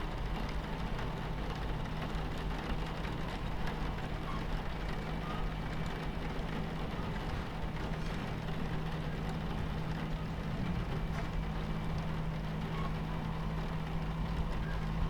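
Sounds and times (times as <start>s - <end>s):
rain pattering on window: 0.0s - 15.0s
train rumbling on tracks: 0.0s - 15.0s.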